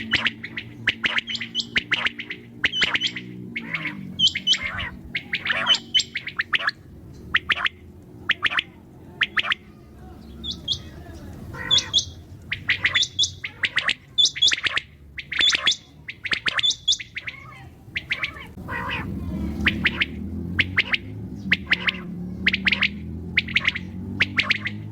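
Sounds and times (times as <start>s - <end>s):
low steady hum: 0.0s - 24.9s
quail calling: 0.0s - 24.9s.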